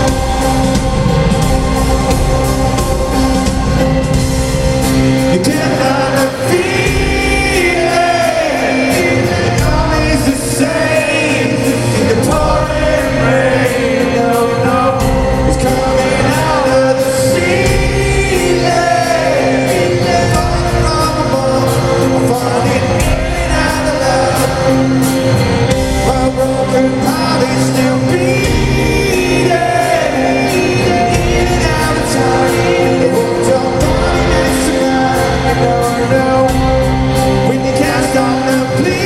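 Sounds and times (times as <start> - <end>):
live rock band playing: 0.0 - 39.0
person singing: 0.0 - 39.0.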